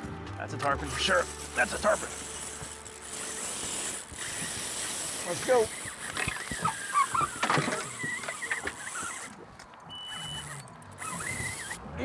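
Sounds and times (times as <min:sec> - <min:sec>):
fishing reel drag squealing: 0:01.0 - 0:12.0.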